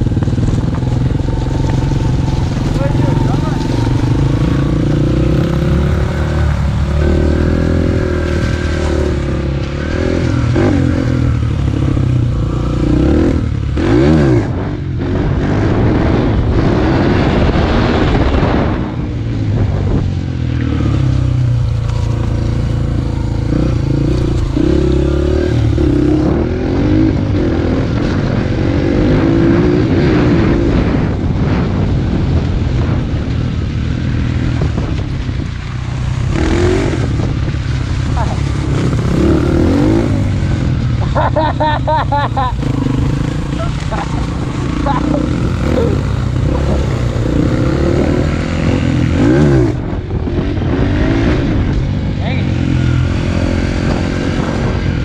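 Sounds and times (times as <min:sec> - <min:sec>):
dirt bike engine revving: 0:00.0 - 0:18.8, 0:19.6 - 0:31.8, 0:35.9 - 0:55.0.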